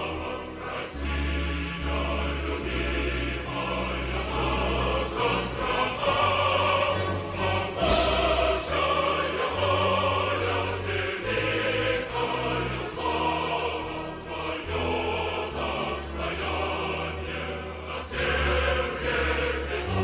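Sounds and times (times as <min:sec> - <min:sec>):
choir singing chords: 0:00.0 - 0:20.0.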